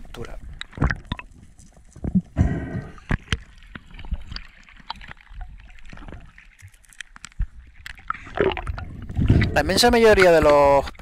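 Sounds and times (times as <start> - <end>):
underwater water gurgling: 0.0 - 11.0.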